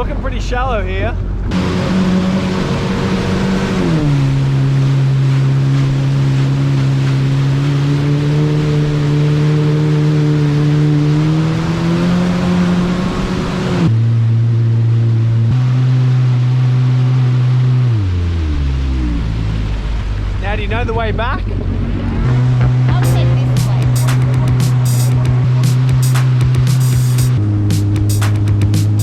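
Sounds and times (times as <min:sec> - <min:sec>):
jet ski engine running: 0:00.0 - 0:29.0.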